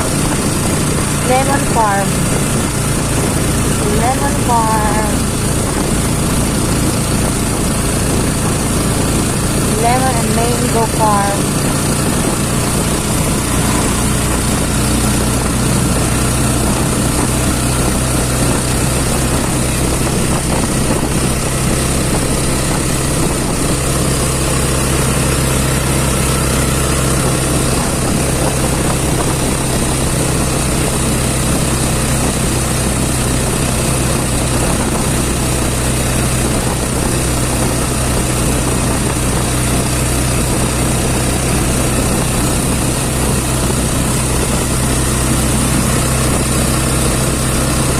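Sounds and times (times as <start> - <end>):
road and wind noise: 0.0 - 47.9
vehicle engine running: 0.0 - 47.9.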